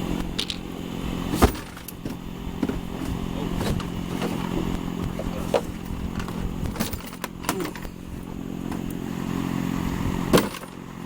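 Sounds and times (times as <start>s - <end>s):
car parts clicking and scraping: 0.0s - 11.0s
low engine-like hum: 0.0s - 11.0s.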